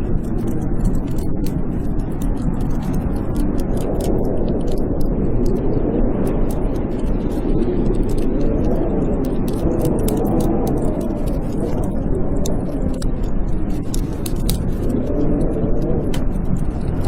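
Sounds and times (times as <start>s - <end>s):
blizzard wind howling: 0.0s - 17.0s
wood fire crackling: 0.0s - 17.0s.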